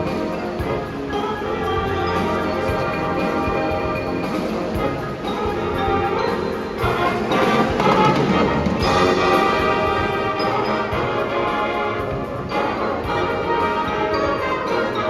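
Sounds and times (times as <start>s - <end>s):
brass instruments sustained chords: 0.0s - 15.0s.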